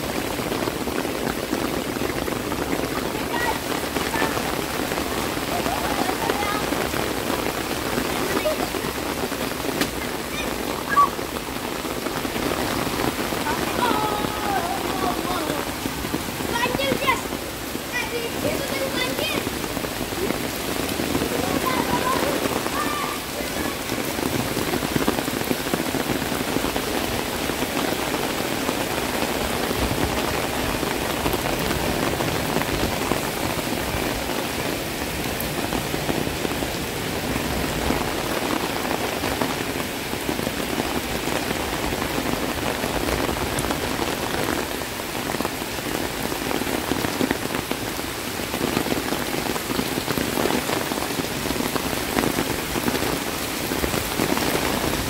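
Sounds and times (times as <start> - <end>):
heavy rain splashing: 0.0 - 55.0.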